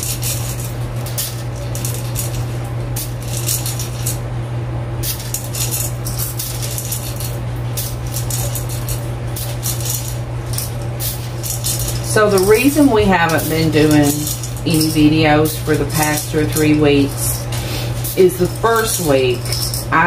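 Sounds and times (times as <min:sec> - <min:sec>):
dried beans rattling: 0:00.0 - 0:04.2, 0:05.0 - 0:20.0.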